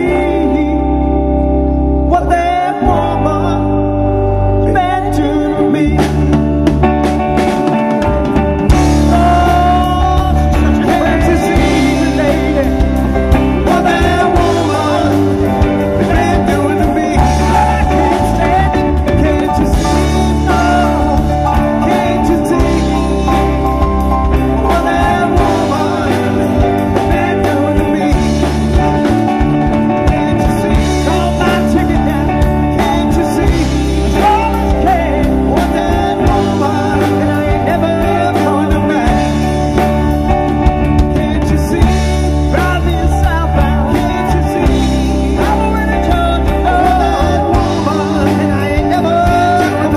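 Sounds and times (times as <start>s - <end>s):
bass line: 0.0s - 49.9s
electric guitars: 0.0s - 49.9s
drum kit: 4.9s - 49.9s.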